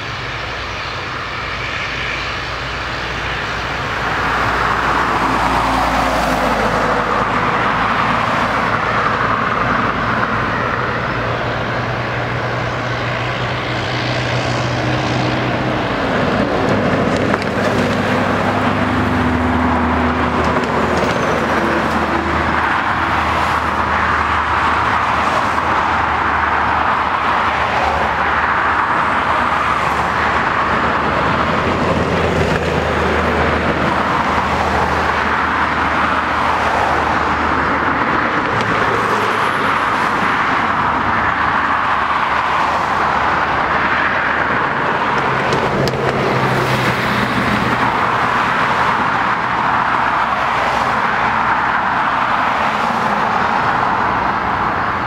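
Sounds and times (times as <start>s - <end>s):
jet engines rushing: 0.0s - 55.0s.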